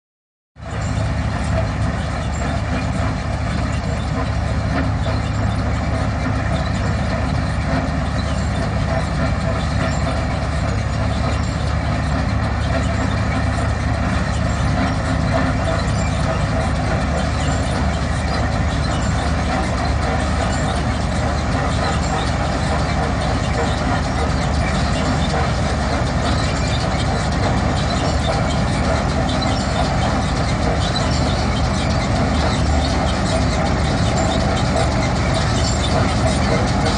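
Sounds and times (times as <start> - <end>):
harvester engine and threshing machinery: 0.6 - 36.9.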